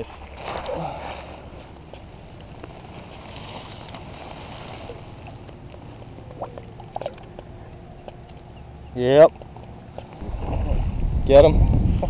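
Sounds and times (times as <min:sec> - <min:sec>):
water sloshing: 0:00.0 - 0:10.9
wind buffeting microphone: 0:01.2 - 0:12.0.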